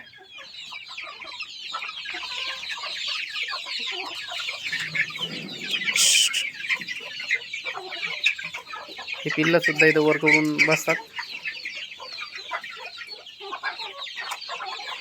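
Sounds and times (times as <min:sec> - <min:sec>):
chickens clucking: 0:00.0 - 0:15.0
chicks peeping: 0:00.0 - 0:15.0.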